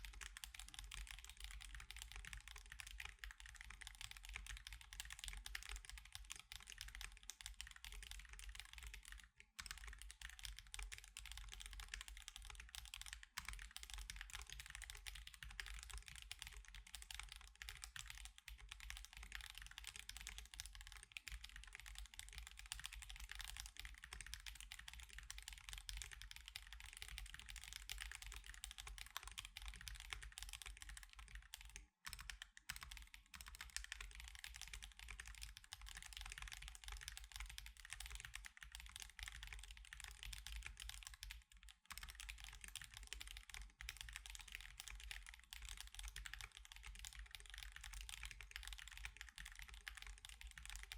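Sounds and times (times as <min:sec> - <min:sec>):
fast typing on mechanical keyboard: 0:00.0 - 0:50.9.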